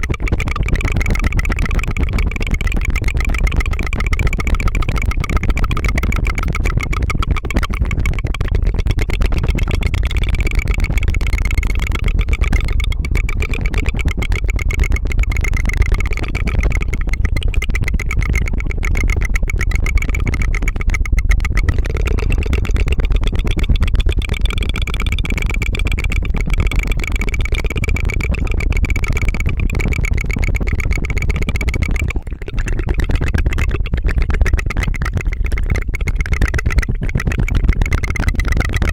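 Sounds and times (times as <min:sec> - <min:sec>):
tongue fluttering trill: 0:00.0 - 0:38.9.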